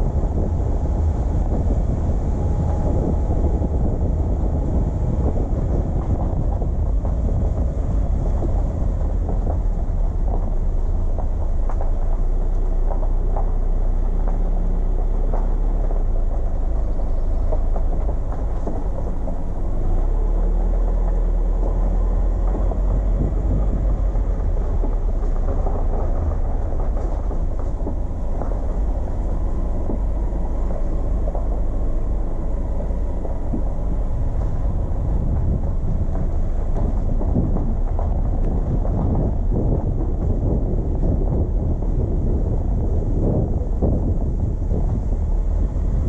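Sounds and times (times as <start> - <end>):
car driving on road: 0.0 - 46.0.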